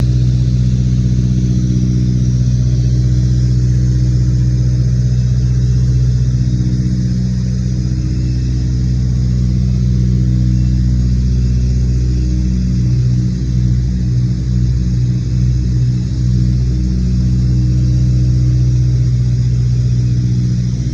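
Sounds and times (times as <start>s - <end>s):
radial aircraft engines droning: 0.0s - 20.9s.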